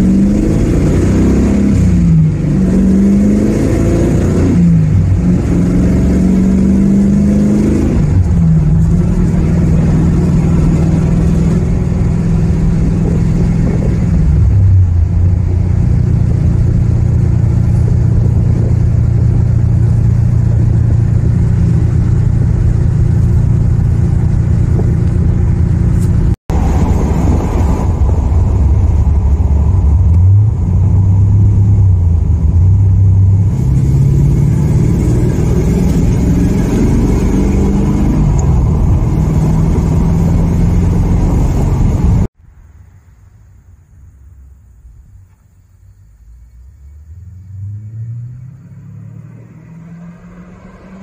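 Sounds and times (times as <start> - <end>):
car engine running from inside: 0.8 - 42.4.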